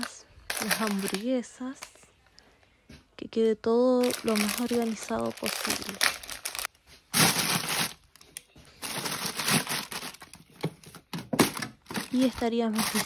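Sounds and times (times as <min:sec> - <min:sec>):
plastic packaging crinkling: 0:00.0 - 0:01.9, 0:04.0 - 0:13.0.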